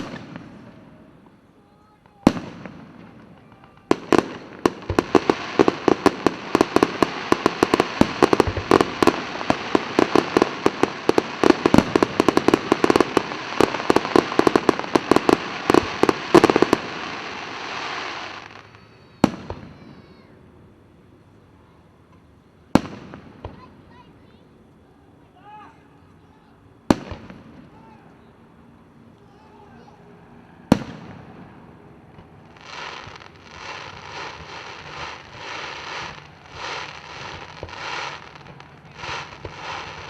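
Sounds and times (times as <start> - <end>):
fireworks bangs: 0.0 - 20.7, 22.1 - 24.4, 26.7 - 28.4, 29.4 - 40.0.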